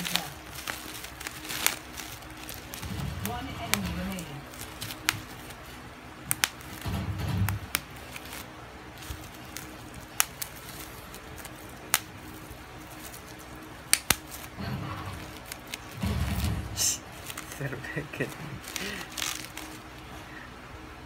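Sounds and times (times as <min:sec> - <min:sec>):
bubble wrap crackling: 0:00.0 - 0:20.4.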